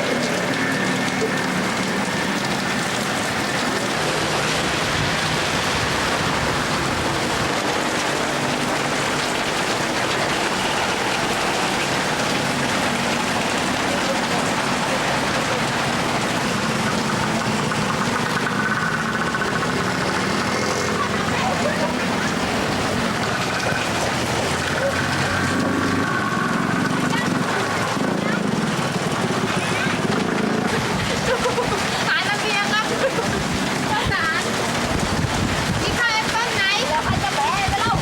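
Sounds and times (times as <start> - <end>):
heavy rain hiss: 0.0 - 38.0.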